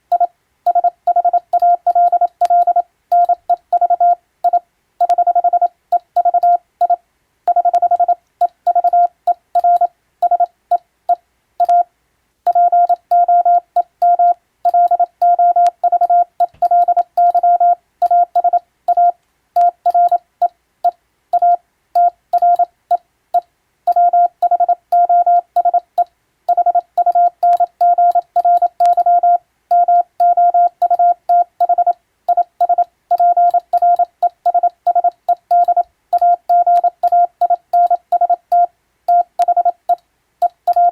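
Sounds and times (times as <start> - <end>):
morse code beeps: 0.1 - 10.5, 11.6 - 11.9, 12.5 - 20.2, 20.8 - 22.7, 23.9 - 40.9.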